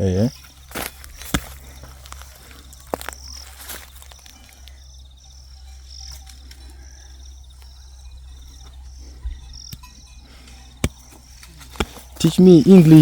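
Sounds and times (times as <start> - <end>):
insect trill: 0.0 - 13.0
steady low hum: 0.0 - 13.0.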